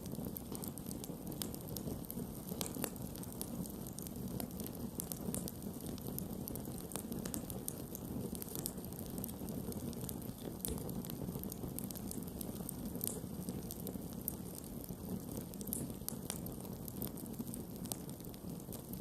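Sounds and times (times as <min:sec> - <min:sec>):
burning wood crackling: 0:00.0 - 0:19.0.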